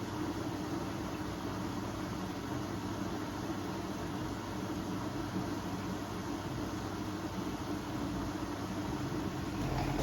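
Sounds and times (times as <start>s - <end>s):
washing machine running: 0.0s - 10.0s.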